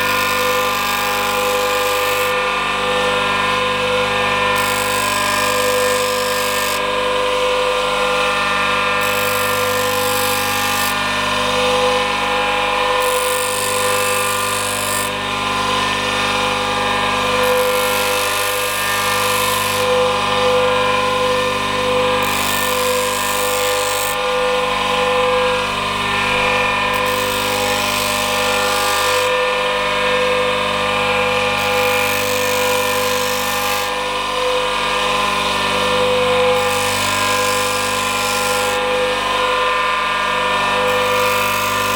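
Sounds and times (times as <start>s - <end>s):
grinder motor whine: 0.0s - 41.9s.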